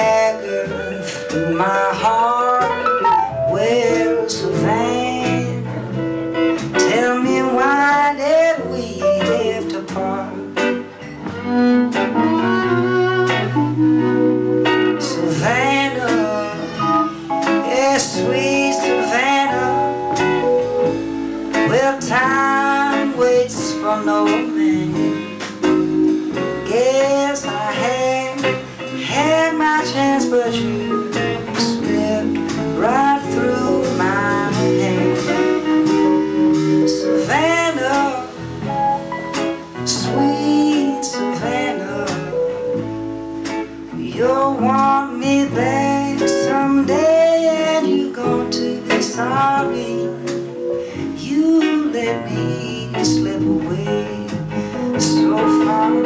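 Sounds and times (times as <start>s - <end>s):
bass: 0.0s - 56.0s
lead melody with sliding notes: 0.0s - 56.0s.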